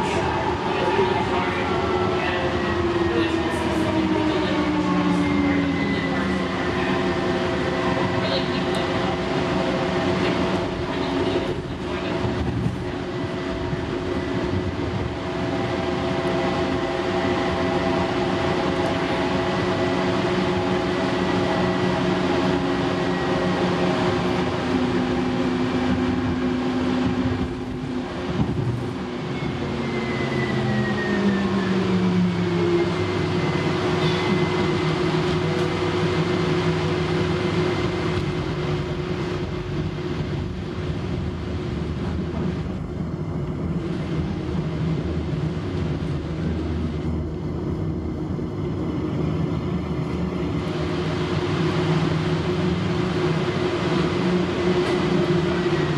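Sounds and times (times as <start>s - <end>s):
wheels rumbling on rail: 0.0s - 55.9s.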